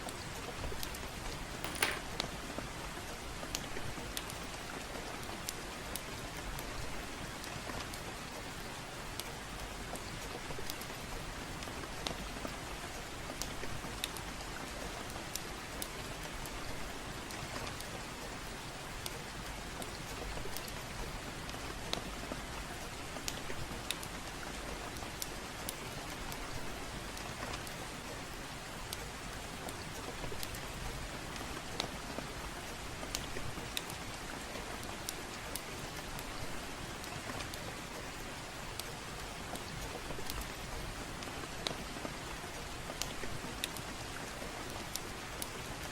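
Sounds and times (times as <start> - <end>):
gentle rain falling: 0.0 - 45.9.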